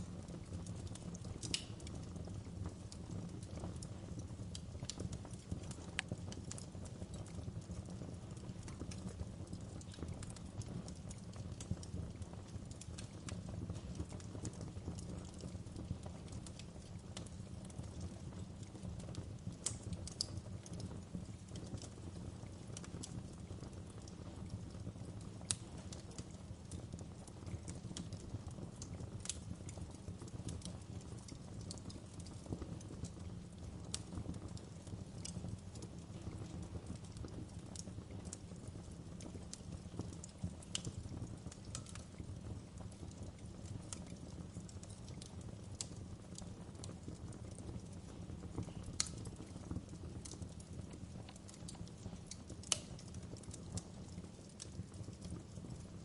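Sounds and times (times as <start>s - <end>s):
wood fire crackling and snapping: 0.0s - 56.0s.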